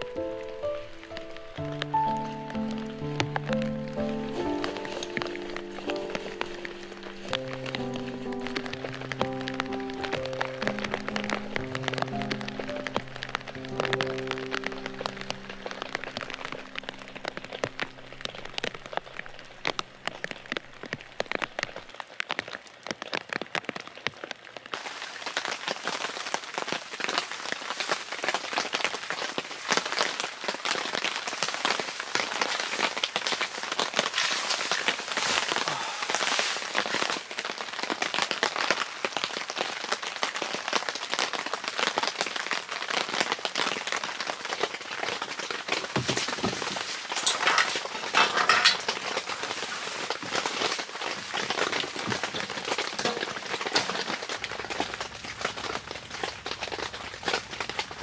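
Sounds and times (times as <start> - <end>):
rain on tent and gravel: 0.0 - 58.0.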